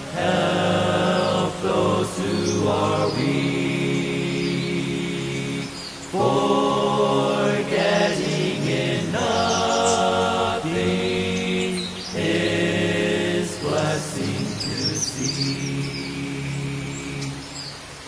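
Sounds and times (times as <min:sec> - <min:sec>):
choir singing a hymn: 0:00.0 - 0:17.7
birds chirping: 0:00.0 - 0:18.0.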